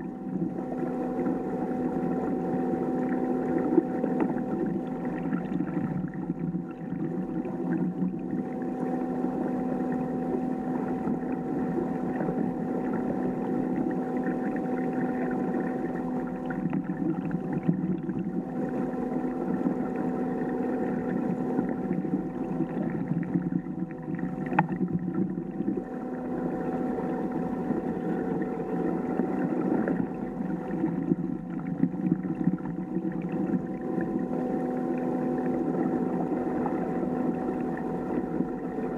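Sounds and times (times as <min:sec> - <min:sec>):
water rushing along hull: 0:00.0 - 0:38.9.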